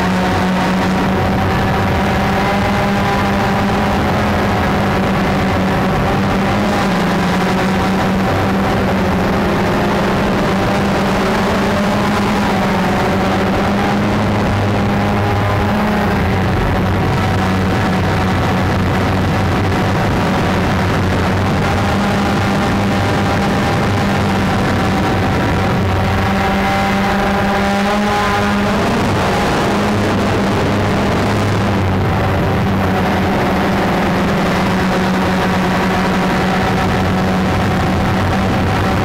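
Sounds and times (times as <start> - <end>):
drone propellers whining: 0.0 - 39.0.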